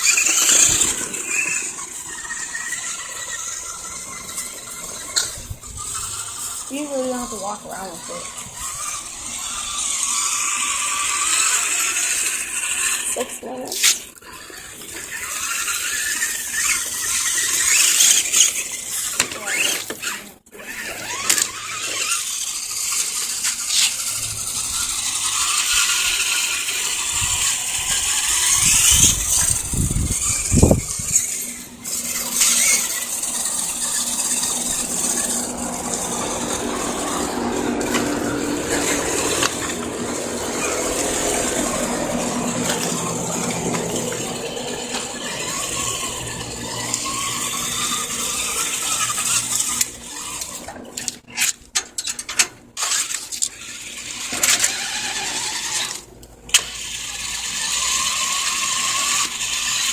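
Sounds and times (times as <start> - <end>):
electric motor and gears whining: 0.0 - 59.9.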